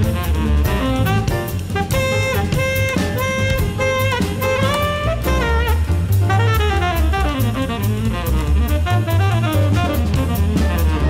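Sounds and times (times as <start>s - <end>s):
bass line: 0.0s - 11.0s
drum kit beat: 0.0s - 11.0s
running melody: 0.0s - 11.0s.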